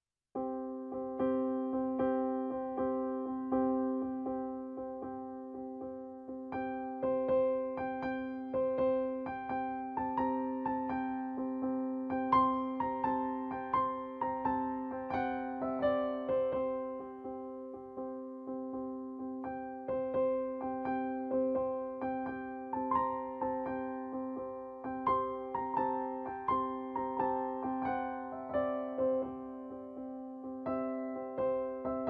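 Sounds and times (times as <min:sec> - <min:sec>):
calm keyboard music: 0:00.3 - 0:32.0.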